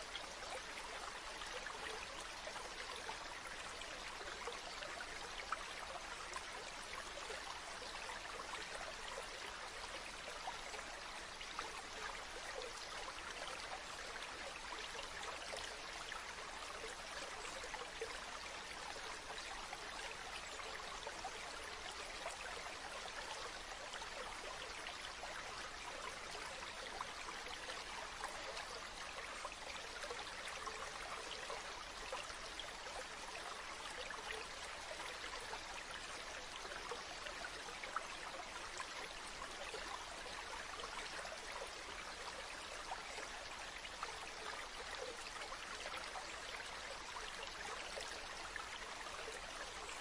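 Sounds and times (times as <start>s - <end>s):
stream babbling: 0.0s - 50.0s.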